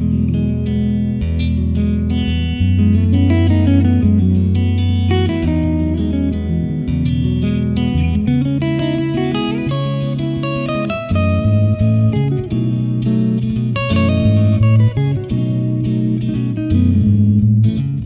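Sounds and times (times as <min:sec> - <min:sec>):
plucked guitar music: 0:00.0 - 0:18.0
sustained bass line: 0:00.0 - 0:18.0.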